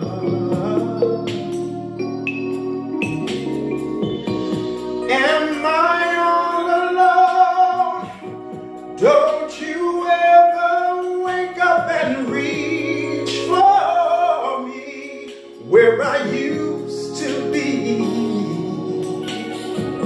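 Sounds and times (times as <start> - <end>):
man singing soul ballad: 0.0 - 3.6, 4.3 - 20.0
instrumental backing track: 0.0 - 20.0.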